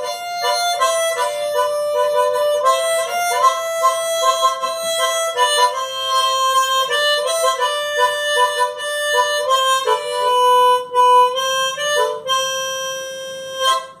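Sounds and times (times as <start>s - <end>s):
harmonica playing slow melody: 0.0s - 14.0s.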